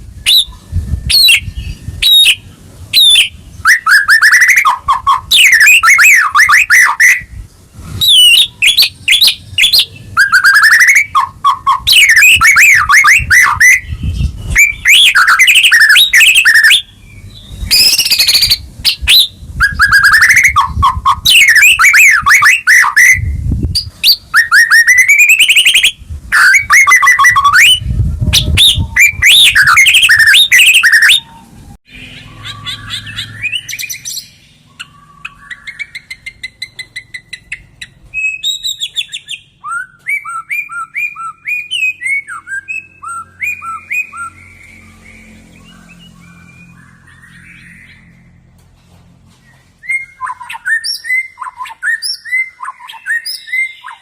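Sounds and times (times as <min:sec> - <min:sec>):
bird whistling song: 0:00.0 - 0:48.4, 0:49.4 - 0:54.0.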